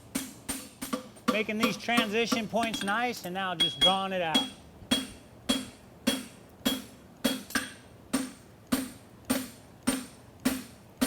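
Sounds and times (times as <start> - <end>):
hammer striking metal on anvil: 0.1 - 3.0, 3.6 - 10.7.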